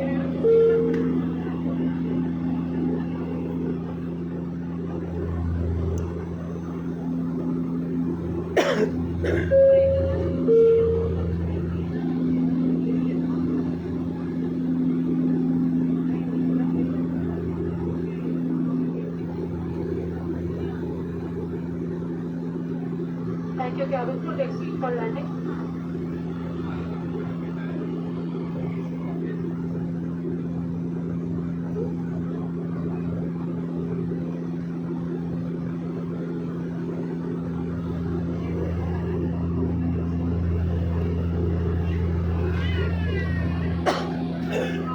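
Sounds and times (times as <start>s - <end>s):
airplane engine droning in cabin: 0.0s - 44.9s.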